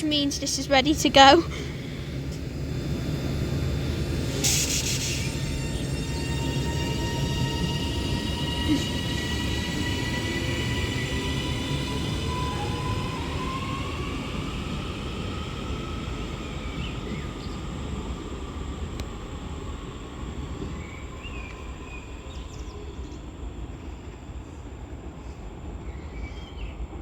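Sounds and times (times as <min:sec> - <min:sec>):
electric train motors whining: 0:00.0 - 0:26.2
train rumble: 0:00.0 - 0:27.0.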